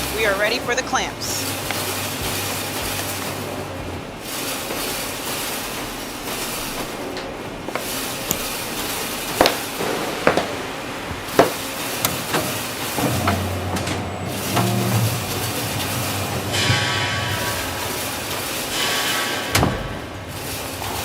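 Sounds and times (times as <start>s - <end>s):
sharp knocks: 0.0s - 21.0s
steady background hiss: 0.0s - 21.0s.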